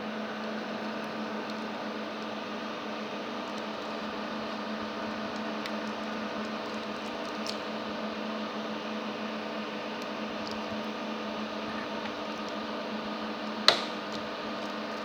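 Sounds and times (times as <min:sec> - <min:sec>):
mechanical hum with tones: 0:00.0 - 0:15.0.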